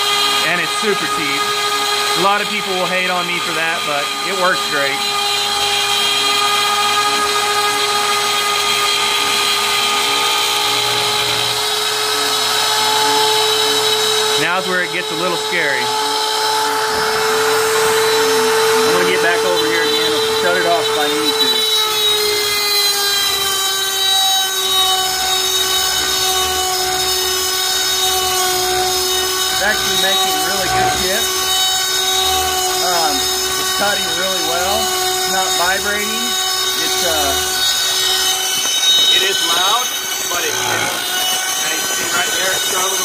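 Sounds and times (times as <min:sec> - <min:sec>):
router milling aluminum: 0:00.0 - 0:43.0.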